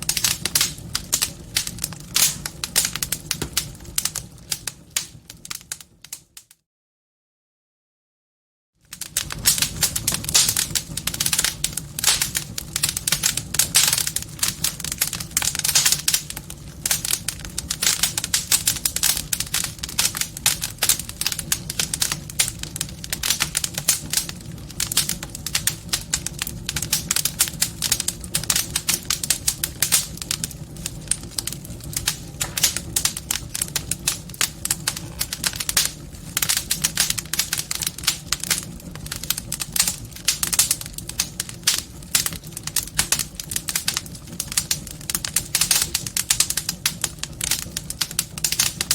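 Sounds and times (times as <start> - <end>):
wood fire crackling: 0.0 - 6.6, 8.8 - 48.9.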